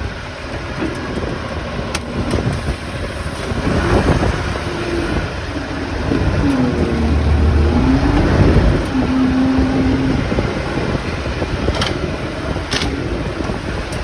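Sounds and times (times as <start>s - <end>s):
forklift engine running: 0.0s - 14.0s.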